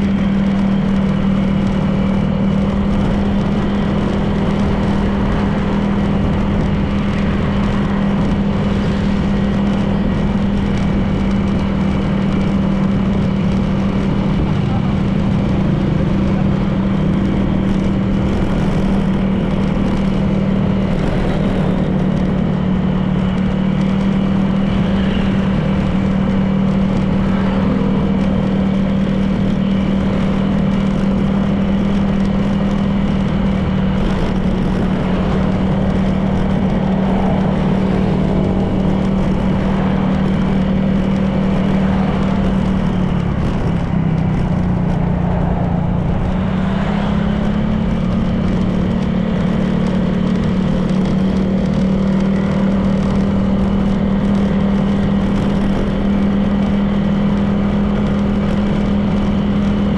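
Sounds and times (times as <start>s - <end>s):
scooter engine running: 0.0s - 59.9s
wind and road noise: 0.0s - 59.9s.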